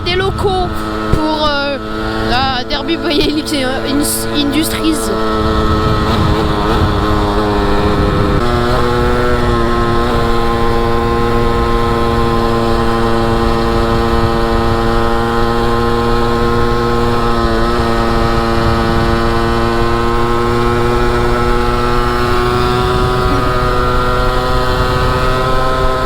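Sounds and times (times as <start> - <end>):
motorcycle engine running: 0.0 - 26.0
wind and road rumble: 0.0 - 26.0.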